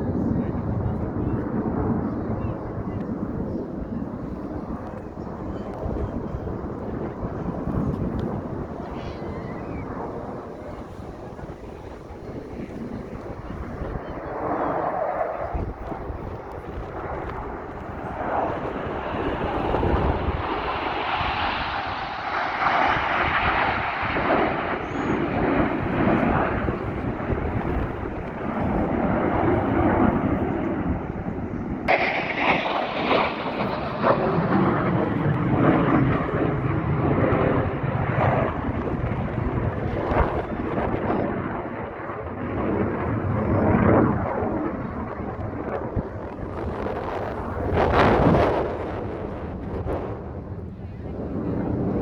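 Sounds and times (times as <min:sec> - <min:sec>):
airplane engine flying past: 0:00.0 - 0:52.0.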